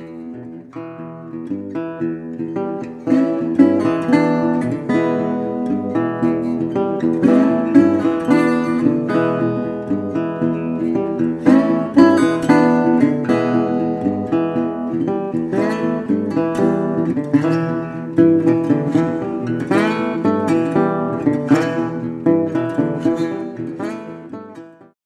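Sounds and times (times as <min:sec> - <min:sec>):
acoustic guitar music: 0:00.0 - 0:25.0.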